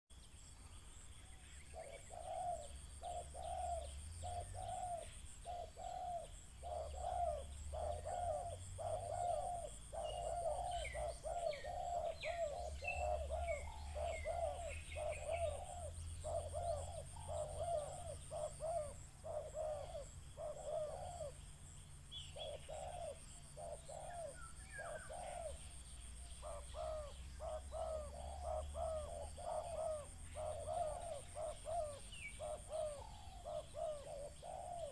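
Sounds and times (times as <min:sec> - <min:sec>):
small birds chirping: 0:00.1 - 0:34.9
dove cooing: 0:01.5 - 0:34.9.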